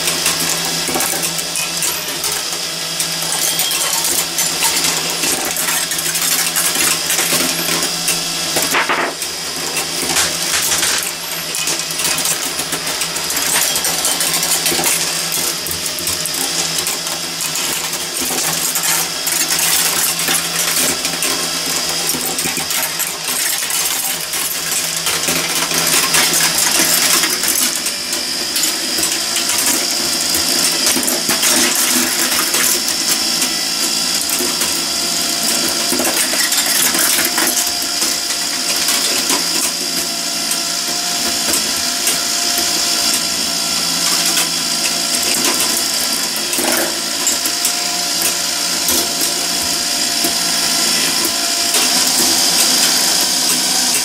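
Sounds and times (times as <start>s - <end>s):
marbles clinking on metal tracks: 0.0s - 54.0s.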